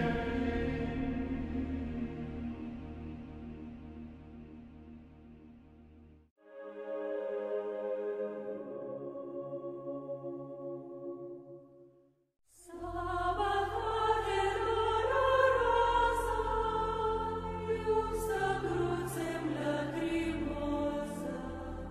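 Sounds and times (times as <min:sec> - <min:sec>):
choir singing sacred music: 0:00.0 - 0:04.1, 0:06.5 - 0:11.7, 0:12.6 - 0:21.9
soft ambient music: 0:00.0 - 0:05.2, 0:06.4 - 0:11.9, 0:12.7 - 0:21.9.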